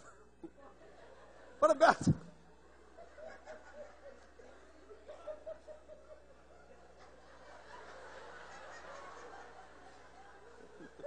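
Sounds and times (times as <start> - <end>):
low electrical hum: 0.0 - 11.0
audience laughing: 0.4 - 11.0.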